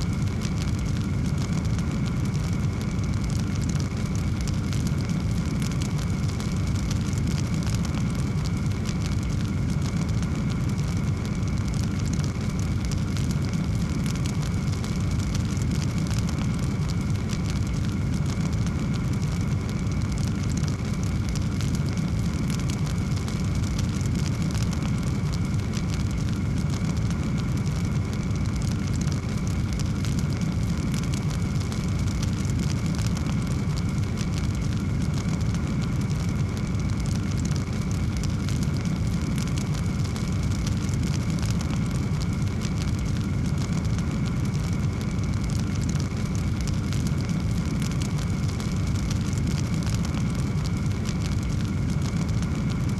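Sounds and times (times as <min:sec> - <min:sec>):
fireplace fire crackling: 0:00.0 - 0:52.9.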